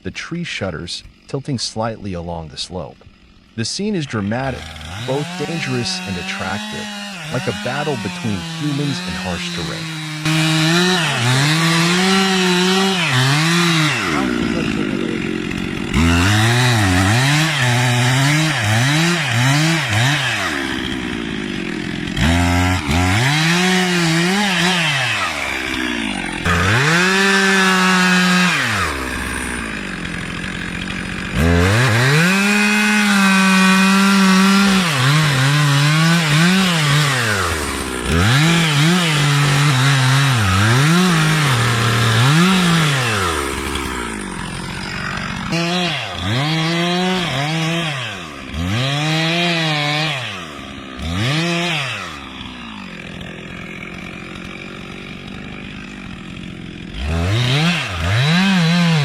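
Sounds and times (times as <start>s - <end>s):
chainsaw cutting through trunk: 0.0s - 59.0s.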